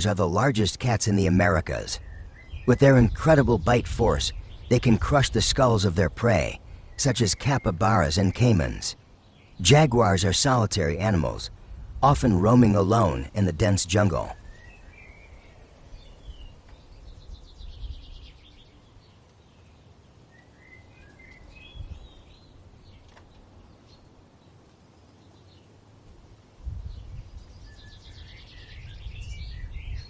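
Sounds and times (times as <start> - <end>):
birds chirping and warbling: 0.0 - 30.0.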